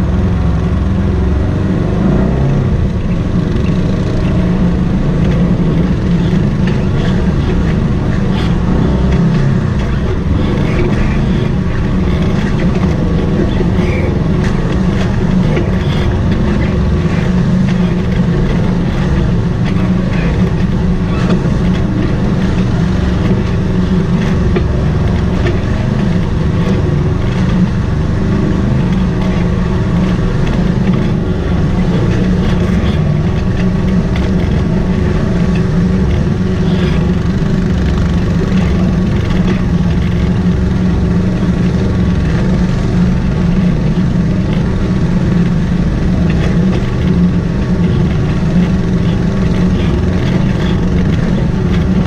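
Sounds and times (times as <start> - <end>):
utility vehicle engine running: 0.0 - 52.0
vehicle knocks and rattles: 0.0 - 52.0.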